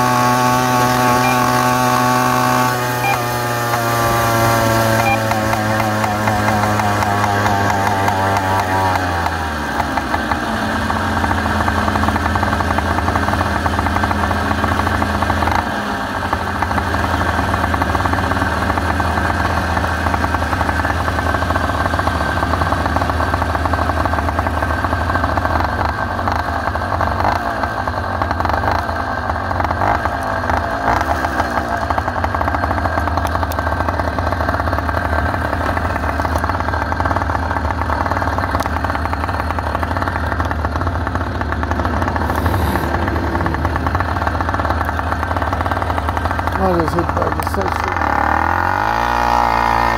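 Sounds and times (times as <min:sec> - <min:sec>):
two-stroke engine running: 0:00.0 - 0:49.9.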